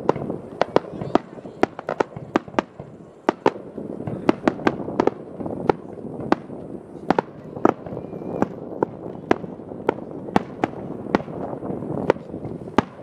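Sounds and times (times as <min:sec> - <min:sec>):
fireworks bursting: 0:00.0 - 0:13.0
low rumble of fireworks: 0:00.0 - 0:13.0.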